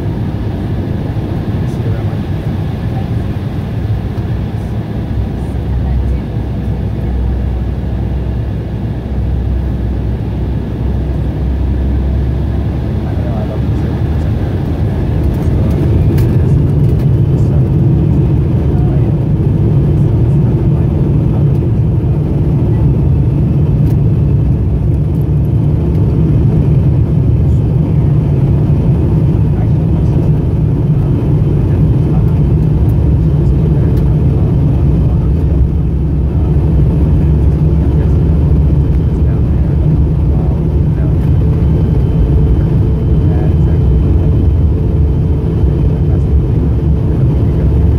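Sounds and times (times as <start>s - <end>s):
faint engine whine climbing: 0.0s - 47.9s
jet engines roaring: 0.0s - 47.9s
wheels rumbling on runway: 0.0s - 47.9s.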